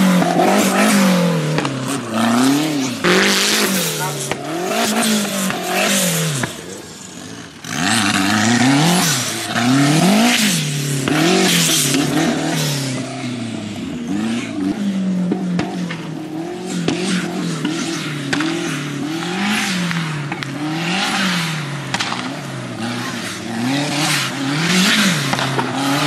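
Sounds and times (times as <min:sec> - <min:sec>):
buggy engine revving: 0:00.0 - 0:26.0.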